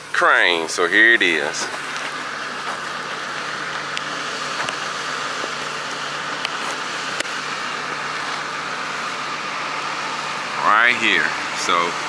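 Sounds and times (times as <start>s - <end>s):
mechanical engine hum: 0.0s - 12.0s.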